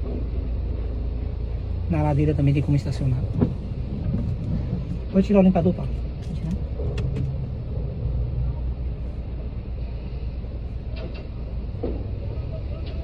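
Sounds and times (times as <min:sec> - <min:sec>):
car driving heard from inside: 0:00.0 - 0:13.0.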